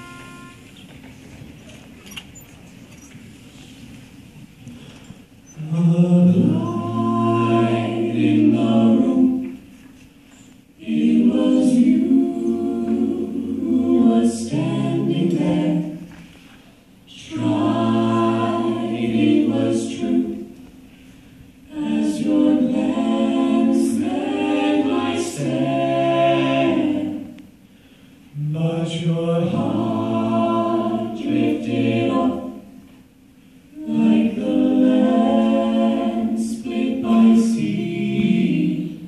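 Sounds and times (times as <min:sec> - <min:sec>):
a cappella group singing harmony: 0:05.5 - 0:39.0.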